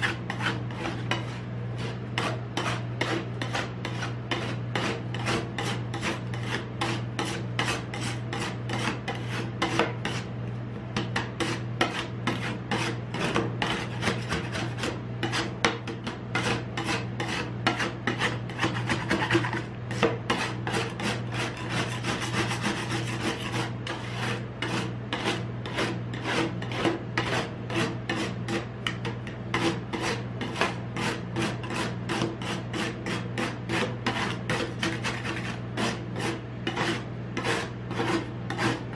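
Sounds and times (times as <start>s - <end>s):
metal spatulas scraping ice on steel: 0.0s - 10.3s, 11.0s - 38.9s.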